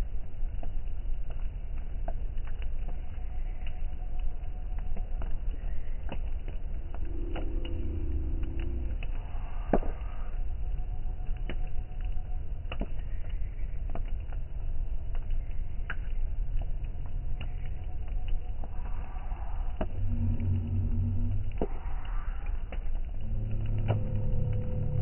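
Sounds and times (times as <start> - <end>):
bonfire crackling and popping: 0.0 - 25.0
steady low rumble: 0.0 - 25.0.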